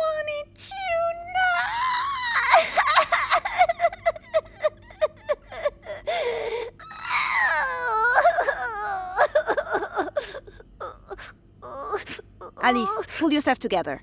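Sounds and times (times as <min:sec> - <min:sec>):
person fake crying: 0:00.7 - 0:13.3.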